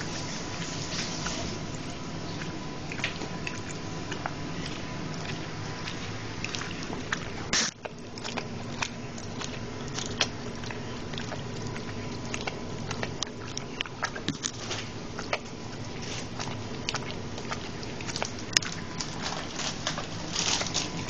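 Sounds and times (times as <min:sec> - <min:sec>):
dog licking: 0:00.0 - 0:21.0.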